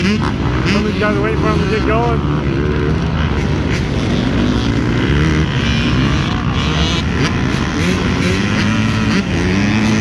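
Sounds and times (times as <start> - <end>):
dirt bike engines idling: 0.0 - 10.0.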